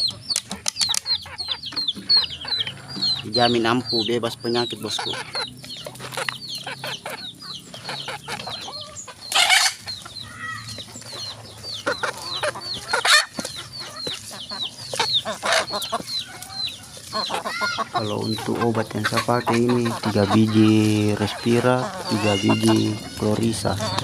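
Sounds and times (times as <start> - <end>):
chickens clucking and peeping: 0.0 - 24.0
harsh chicken calls: 0.0 - 24.0.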